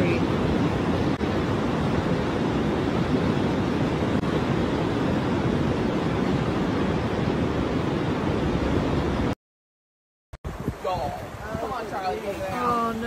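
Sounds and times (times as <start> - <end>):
river rushing in flood: 0.0 - 9.4, 10.5 - 13.0.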